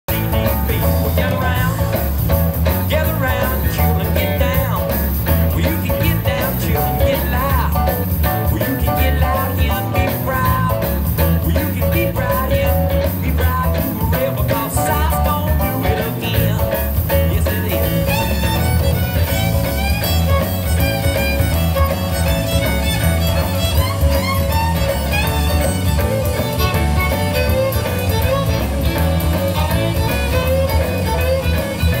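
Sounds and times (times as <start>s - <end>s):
fiddle and guitar music with bass beat: 0.0s - 32.0s.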